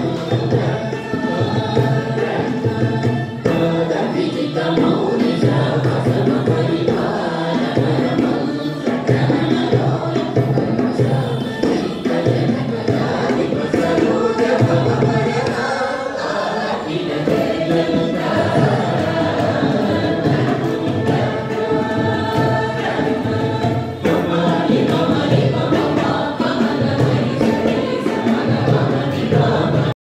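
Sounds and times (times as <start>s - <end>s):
group singing in unison: 0.0s - 30.0s
violin: 0.0s - 30.0s.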